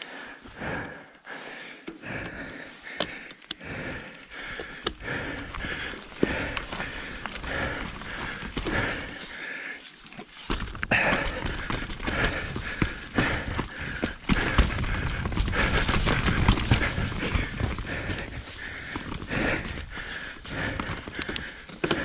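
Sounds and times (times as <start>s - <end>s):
bike rattling and knocking: 1.9s - 22.0s
bike tyres rumbling over dirt: 2.0s - 22.0s.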